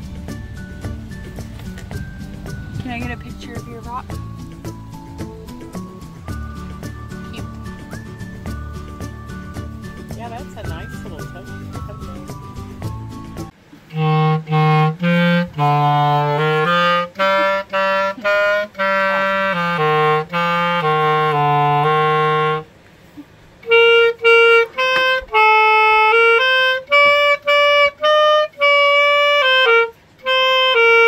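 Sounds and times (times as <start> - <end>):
solo clarinet melody: 0.0 - 22.7, 23.6 - 31.0.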